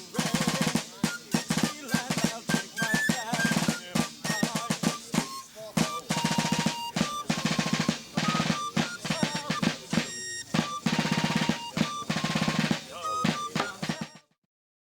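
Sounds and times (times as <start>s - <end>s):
snare drums rolling: 0.0s - 14.2s.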